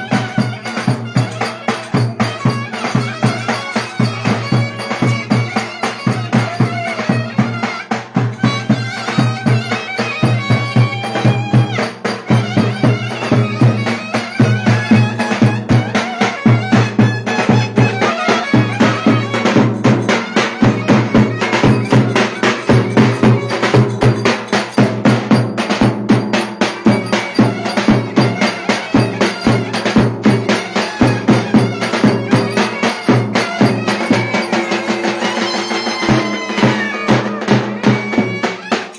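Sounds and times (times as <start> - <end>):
clarinet melody: 0.0 - 24.6, 26.6 - 38.9
fast drum beat: 0.0 - 38.9.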